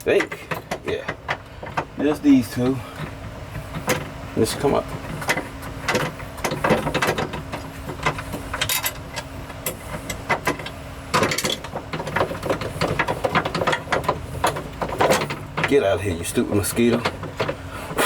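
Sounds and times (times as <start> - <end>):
metal tools knocking and clanking: 0.0 - 17.6.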